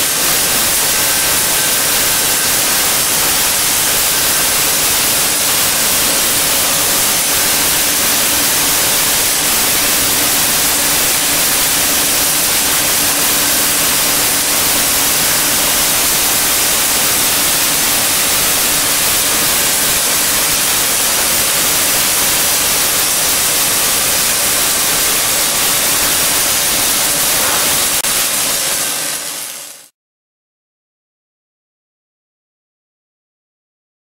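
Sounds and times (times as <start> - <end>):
welding arc hissing and crackling: 0.0 - 29.9.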